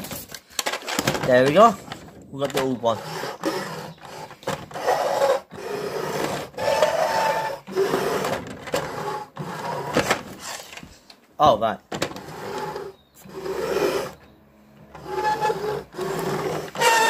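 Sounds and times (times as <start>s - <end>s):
toy lorry wheels whirring: 0.0s - 10.8s, 12.0s - 14.2s, 14.8s - 17.0s.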